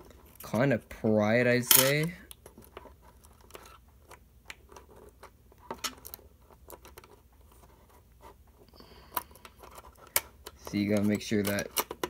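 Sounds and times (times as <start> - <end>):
faint metallic clicks and scrapes: 1.5 - 12.0.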